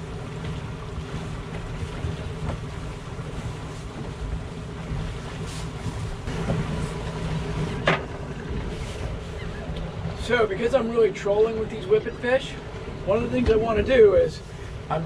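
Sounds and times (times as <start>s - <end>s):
outboard motors rumbling: 0.0s - 15.0s
water moving past boat: 0.0s - 15.0s.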